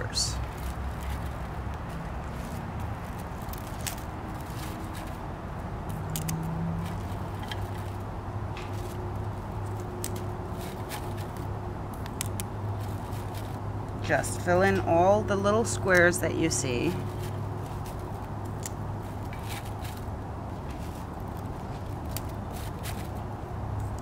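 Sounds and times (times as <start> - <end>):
fern fronds rustling: 0.0 - 23.8.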